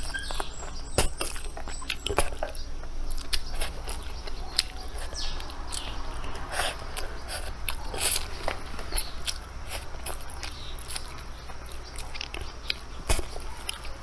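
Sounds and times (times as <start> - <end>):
person chewing with wet smacks: 0.0 - 14.0.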